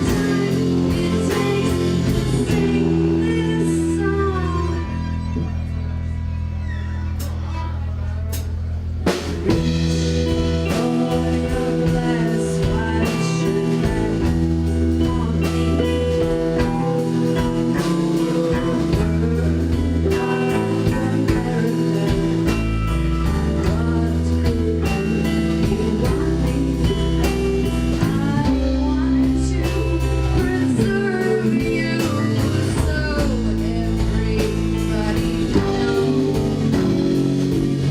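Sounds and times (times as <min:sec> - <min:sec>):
live band playing: 0:00.0 - 0:37.9.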